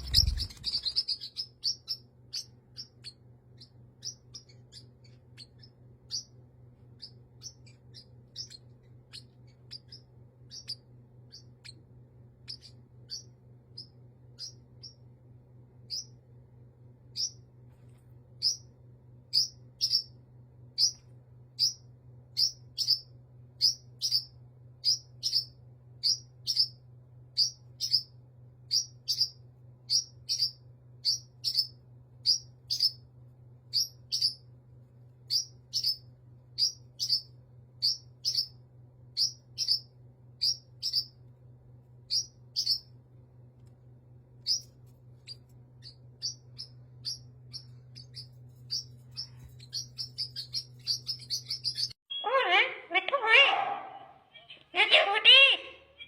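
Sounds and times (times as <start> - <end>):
baby parrot chirping: 0.0 - 15.1, 15.8 - 16.2, 17.1 - 17.5, 18.3 - 34.6, 35.2 - 41.3, 42.0 - 43.0, 44.4 - 56.0
faint low hum: 0.0 - 56.0.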